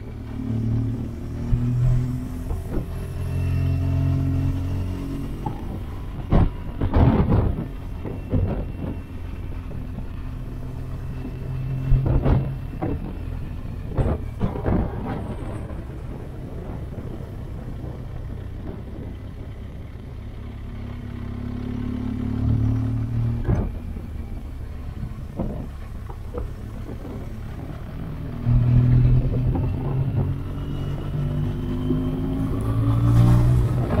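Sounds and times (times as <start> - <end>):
wind noise: 0.0 - 20.4, 23.2 - 34.0.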